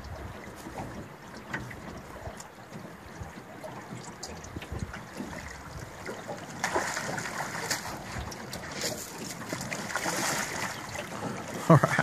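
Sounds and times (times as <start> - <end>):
wind rumbling on microphone: 0.0 - 11.4
river water sloshing and splashing: 0.0 - 12.0.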